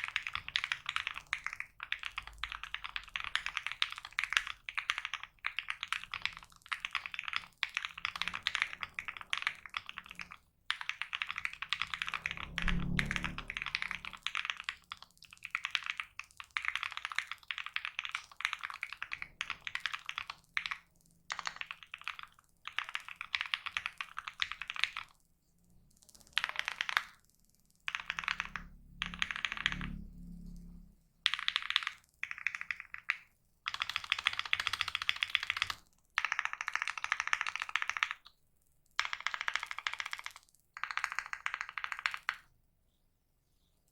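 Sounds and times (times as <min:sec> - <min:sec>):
fast mechanical keyboard typing: 0:00.0 - 0:42.6.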